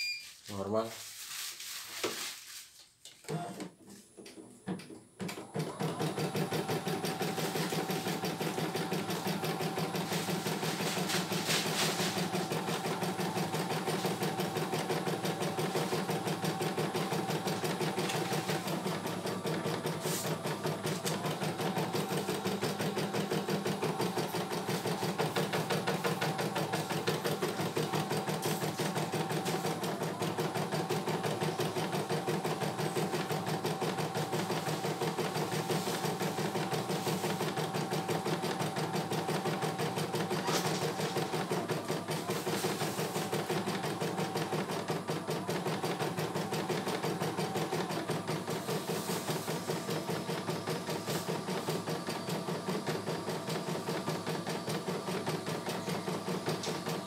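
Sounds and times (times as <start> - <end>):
embroidery machine stitching: 5.2 - 57.0.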